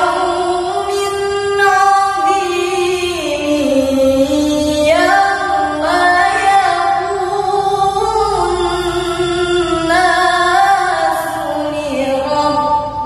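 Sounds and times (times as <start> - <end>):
woman chanting melodically: 0.0 - 13.0.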